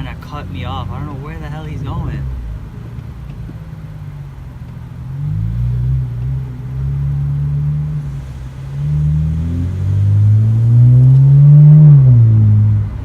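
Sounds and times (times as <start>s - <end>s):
car engine accelerating and revving: 0.0s - 13.0s.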